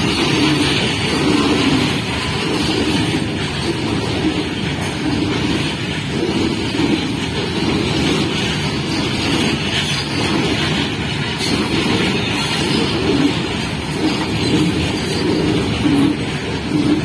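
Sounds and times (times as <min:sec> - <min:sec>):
freight train wheels on rails: 0:00.0 - 0:17.0.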